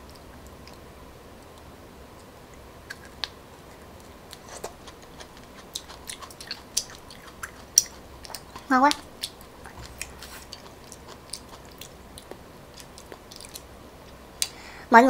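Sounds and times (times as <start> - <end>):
wet chewing clicks and smacks: 1.4 - 14.6.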